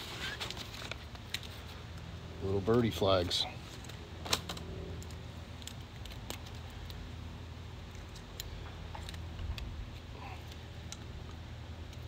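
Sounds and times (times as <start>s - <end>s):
low background rumble: 0.7s - 12.0s.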